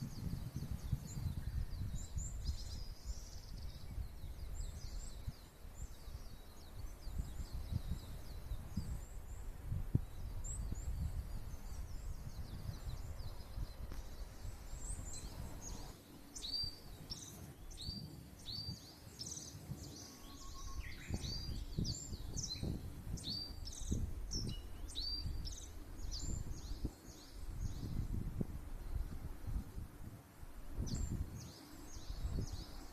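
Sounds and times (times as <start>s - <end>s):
songbirds chirping: 0.0s - 32.9s.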